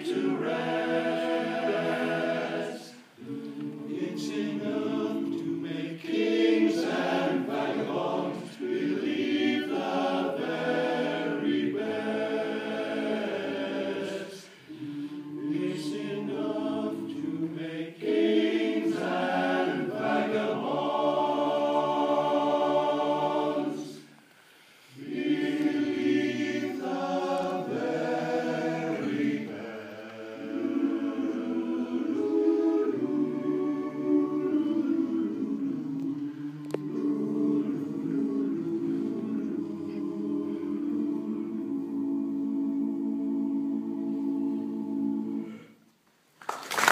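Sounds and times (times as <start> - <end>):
men's choir singing a cappella: 0.0 - 24.2, 24.9 - 45.8.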